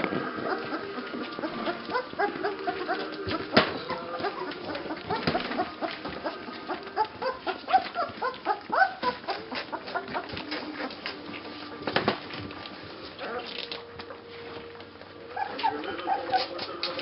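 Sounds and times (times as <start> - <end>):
puppies squeaking and whimpering: 0.2 - 11.6, 13.0 - 13.8, 15.2 - 17.0.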